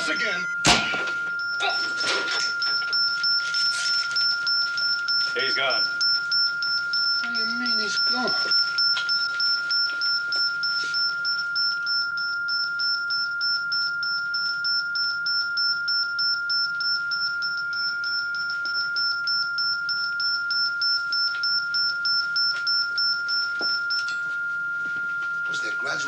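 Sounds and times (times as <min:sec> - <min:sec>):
monitor flatline tone: 0:00.0 - 0:26.0
rapid high-pitched pulsing beep: 0:00.0 - 0:26.0.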